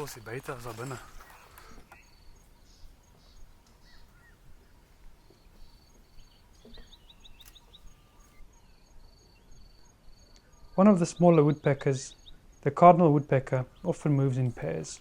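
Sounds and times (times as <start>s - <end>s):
insects chirping in high trills: 0.0s - 15.0s.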